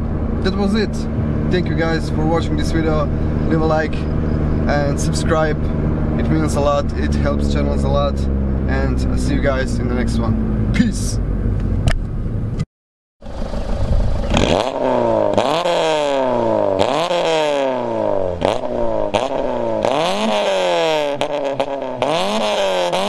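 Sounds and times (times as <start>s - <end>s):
car engine revving: 0.0s - 12.6s, 13.2s - 23.0s
exhaust cracks: 0.0s - 12.6s, 13.2s - 23.0s.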